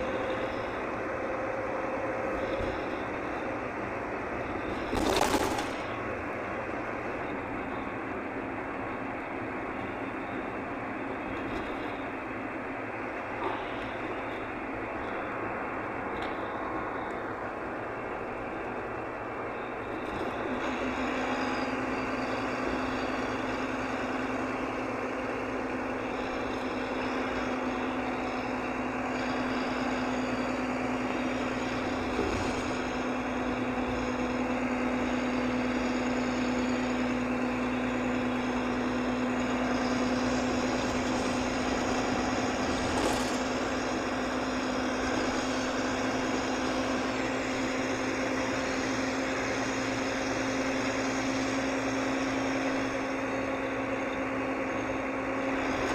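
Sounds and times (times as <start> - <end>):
diesel engine cruising: 0.0 - 55.9
road and tyre noise: 0.0 - 55.9.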